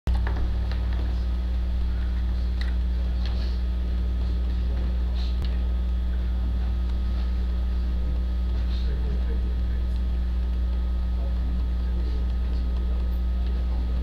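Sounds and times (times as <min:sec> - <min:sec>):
electrical mains hum: 0:00.1 - 0:14.0
room noise: 0:00.1 - 0:14.0.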